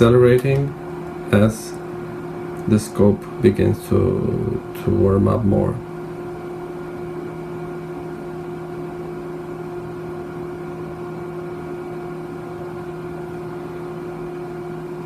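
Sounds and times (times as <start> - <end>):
cooling fan humming: 0.0 - 15.0.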